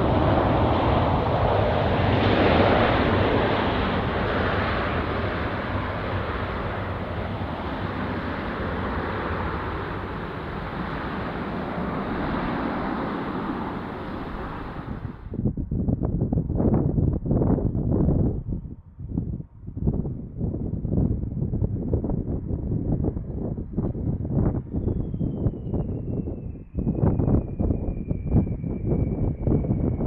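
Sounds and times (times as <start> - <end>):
jet airliner engine: 0.0 - 30.0.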